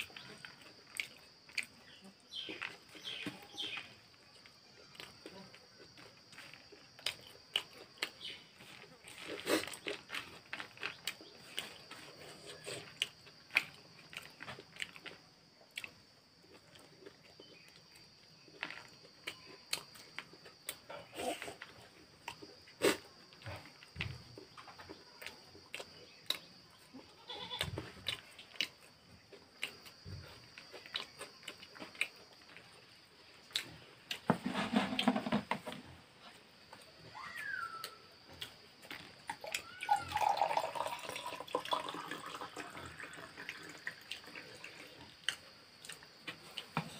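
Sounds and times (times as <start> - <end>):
chewing crunchy puffed rice: 0.0 - 46.9.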